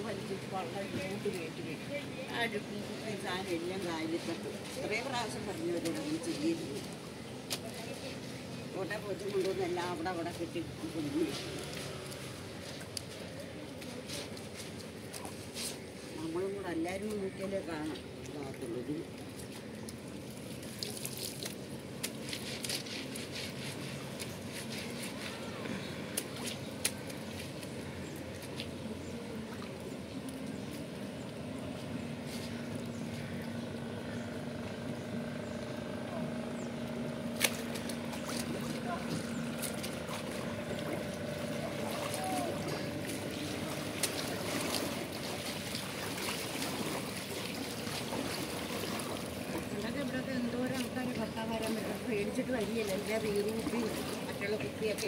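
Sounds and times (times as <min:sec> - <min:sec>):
low steady hum: 0:00.0 - 0:55.0
small waves lapping against bank: 0:00.0 - 0:55.0.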